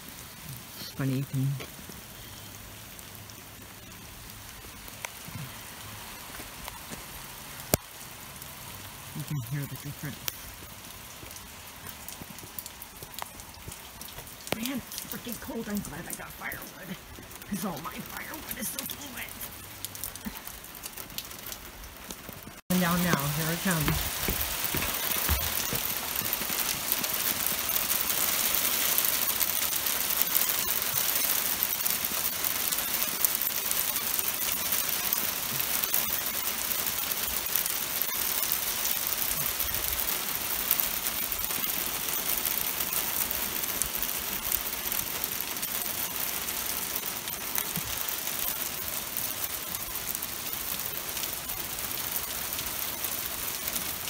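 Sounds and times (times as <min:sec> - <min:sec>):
rain and ice pellets on metal: 0:00.0 - 0:54.0.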